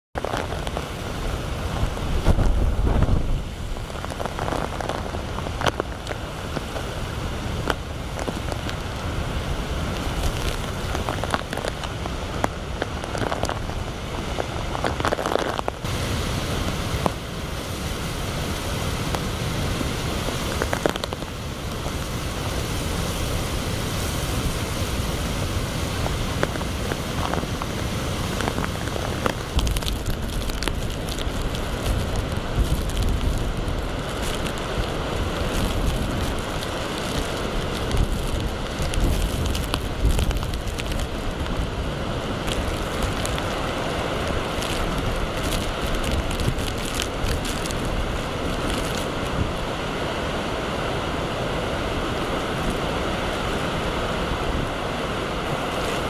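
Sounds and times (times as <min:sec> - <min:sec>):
heavy rain pouring: 0:00.2 - 0:56.0
strong wind gusts: 0:00.2 - 0:56.0.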